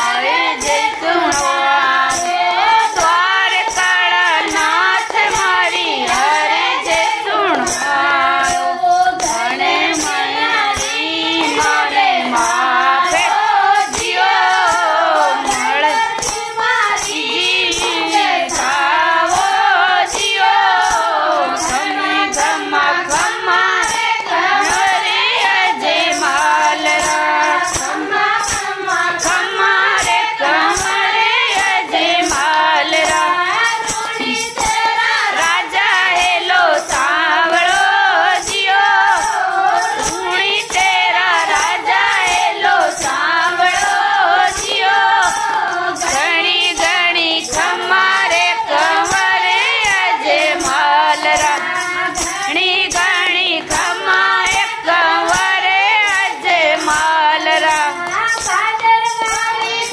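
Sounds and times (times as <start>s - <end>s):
hand-clapping: 0.0s - 59.9s
women singing together: 0.0s - 59.9s.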